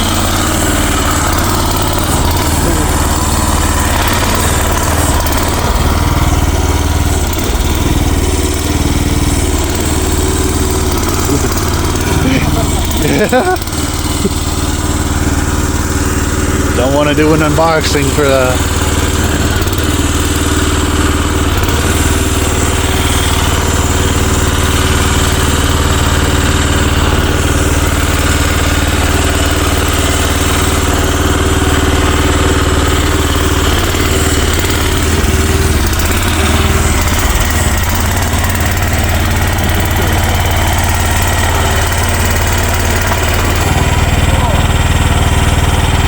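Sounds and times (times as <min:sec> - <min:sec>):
mini excavator engine running: 0:00.0 - 0:46.0.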